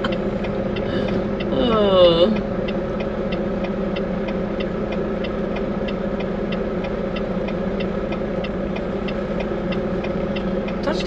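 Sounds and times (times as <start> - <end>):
diesel truck engine droning: 0.0 - 11.0
steady light ticking: 0.0 - 11.0.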